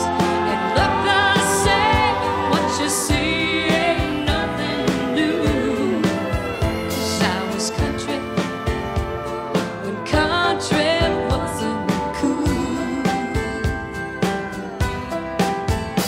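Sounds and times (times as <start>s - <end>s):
woman's wordless sustained vocal: 0.0s - 15.0s
country band with drums: 0.0s - 16.0s.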